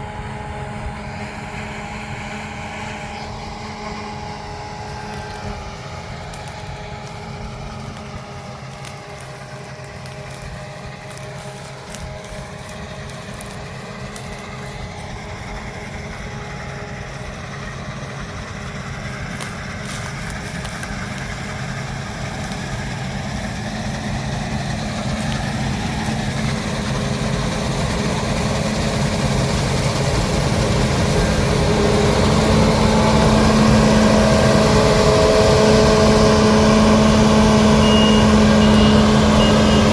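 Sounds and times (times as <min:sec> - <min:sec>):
diesel farm machinery droning: 0:00.0 - 0:39.9.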